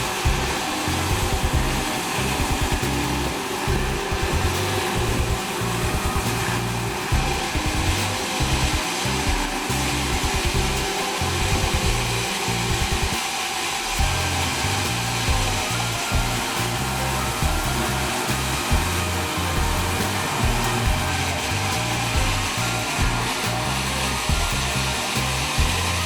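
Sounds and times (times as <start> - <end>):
music with stepping bass line: 0.0 - 13.3, 13.9 - 26.0
saw whirring: 0.0 - 26.0.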